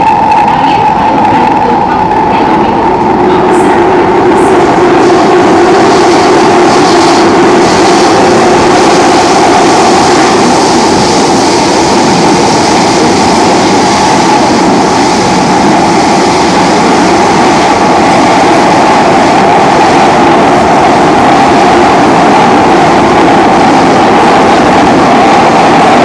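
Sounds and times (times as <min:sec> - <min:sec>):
train rumble and rail noise: 0:00.0 - 0:26.0.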